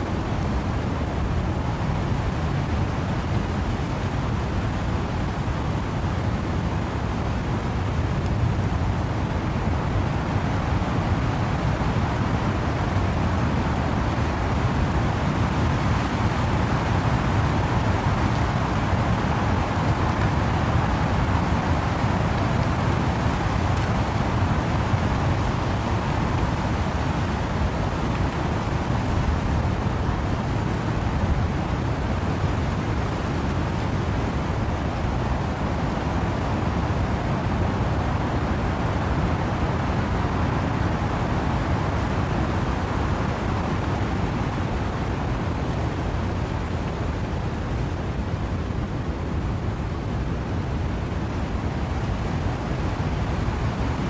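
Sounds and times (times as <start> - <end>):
rain: 0.0 - 54.0
wind: 0.0 - 54.0
trees rustling: 5.5 - 50.2.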